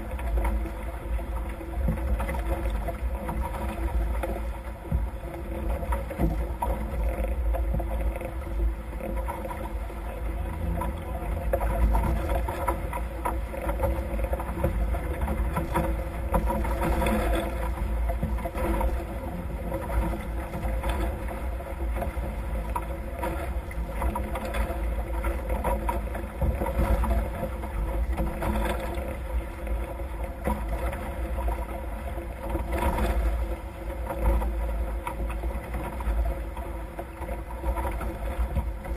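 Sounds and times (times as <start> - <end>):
water rushing along hulls: 0.0 - 38.9
wind rumble on microphone: 0.0 - 38.9.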